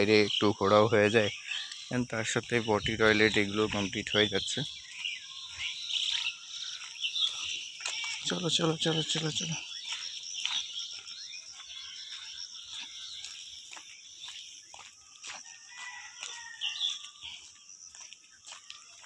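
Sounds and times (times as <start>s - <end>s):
bird calls: 0.0s - 19.0s
footsteps on gravel: 0.0s - 19.0s.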